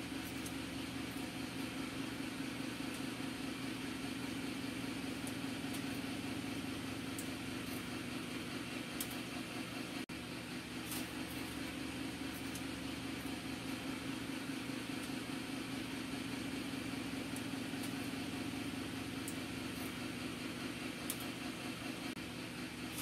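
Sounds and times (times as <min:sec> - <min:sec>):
low machine hum with hiss: 0:00.0 - 0:23.0.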